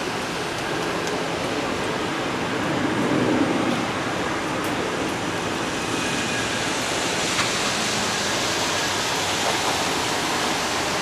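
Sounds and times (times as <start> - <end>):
jet engine roar at takeoff: 0.0 - 11.0.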